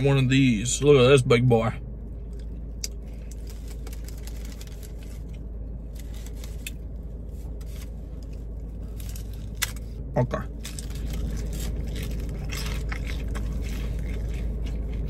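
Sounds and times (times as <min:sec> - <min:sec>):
steady low hum: 0:00.0 - 0:15.0
clicks and rustles of handling food: 0:02.3 - 0:15.0.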